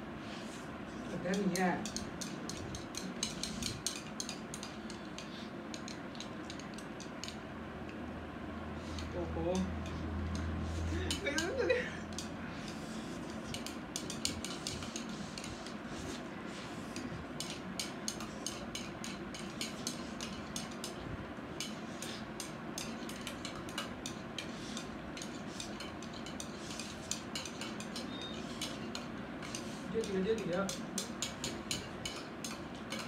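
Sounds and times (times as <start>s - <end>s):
chopsticks clicking on plates: 1.3s - 8.0s, 11.1s - 15.8s, 16.9s - 21.0s, 21.6s - 33.0s.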